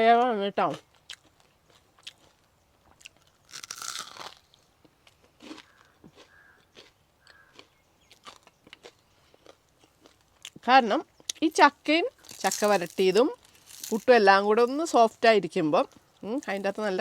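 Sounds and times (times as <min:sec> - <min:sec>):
crunching and chewing fried snack: 0:00.7 - 0:10.6, 0:11.2 - 0:15.0.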